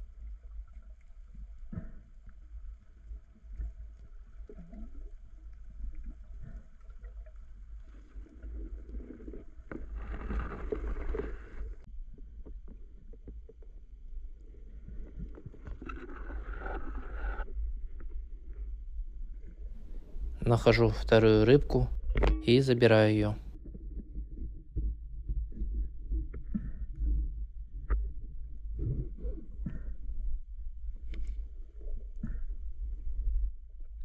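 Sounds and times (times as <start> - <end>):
muffled underwater rumble: 0.0 - 34.0.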